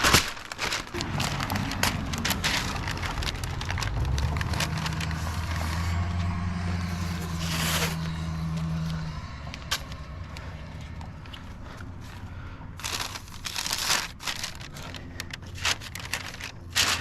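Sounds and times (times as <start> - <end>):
masking tape and paper ripping: 0.0 - 11.8, 12.8 - 17.0
low engine hum: 0.9 - 17.0.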